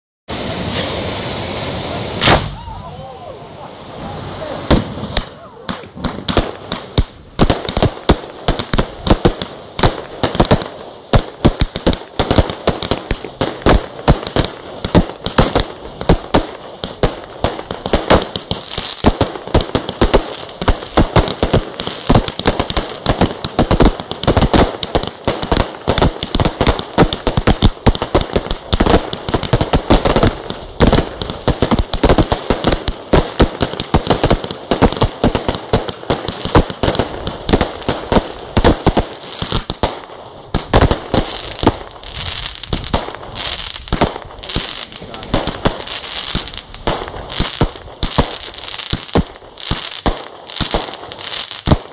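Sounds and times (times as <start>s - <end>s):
fireworks crackling: 0.3s - 2.6s, 3.3s - 51.9s
fireworks bangs: 0.3s - 2.7s, 4.4s - 51.9s.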